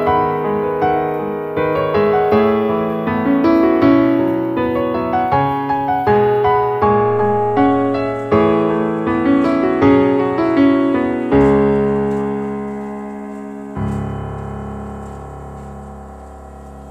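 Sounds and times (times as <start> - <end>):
gentle piano music: 0.0 - 16.9.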